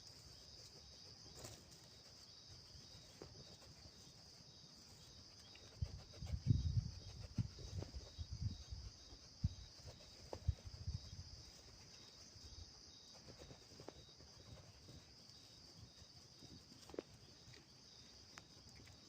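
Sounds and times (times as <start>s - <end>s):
insects chirring: 0.0s - 19.0s
soft scuffs and rustles: 0.0s - 19.0s.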